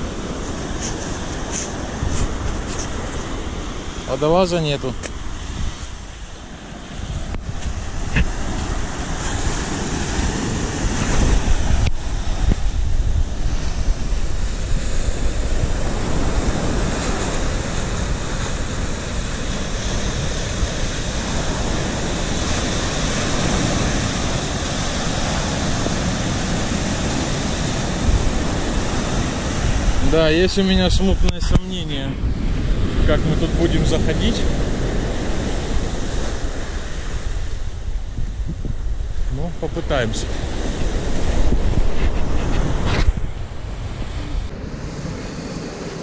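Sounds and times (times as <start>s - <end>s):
sea surf breaking on shore: 0.0s - 46.0s
wind buffeting microphone: 0.0s - 46.0s.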